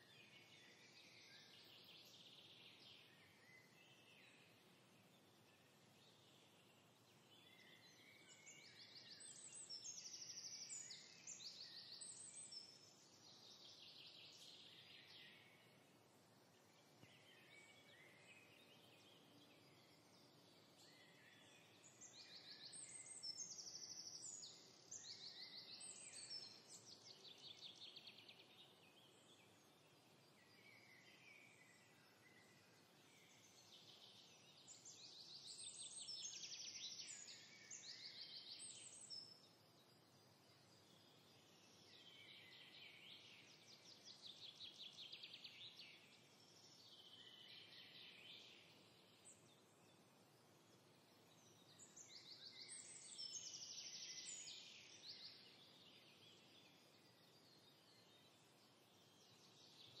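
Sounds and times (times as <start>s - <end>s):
background hiss: 0.0s - 60.0s.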